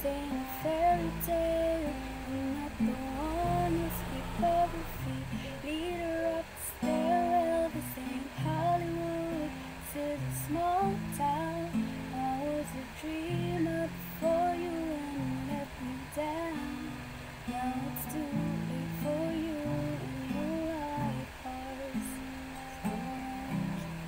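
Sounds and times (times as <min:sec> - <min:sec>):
acoustic guitar: 0:00.0 - 0:24.0
woman singing: 0:00.0 - 0:24.0.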